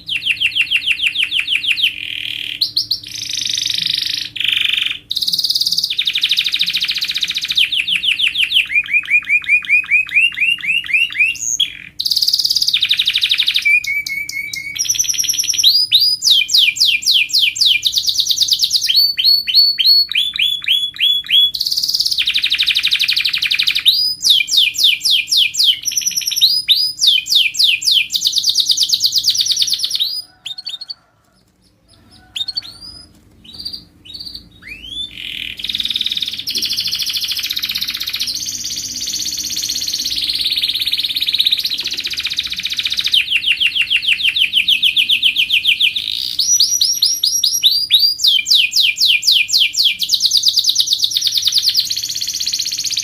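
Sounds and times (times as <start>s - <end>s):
canary singing trills: 0.0s - 53.0s
faint steady hum: 0.0s - 53.0s.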